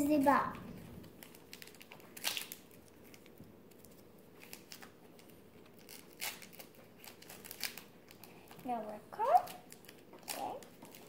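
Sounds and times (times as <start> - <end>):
card pack wrapper tearing and crinkling: 1.0 - 8.6, 9.3 - 11.0.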